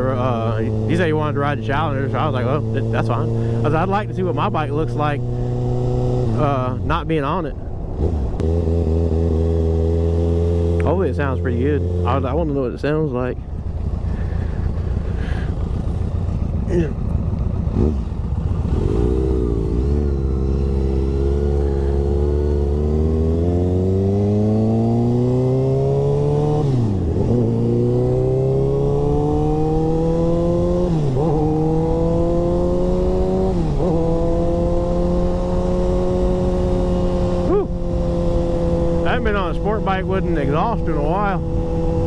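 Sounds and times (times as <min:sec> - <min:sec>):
motorcycle engine revving: 0:00.0 - 0:07.1, 0:07.8 - 0:42.0.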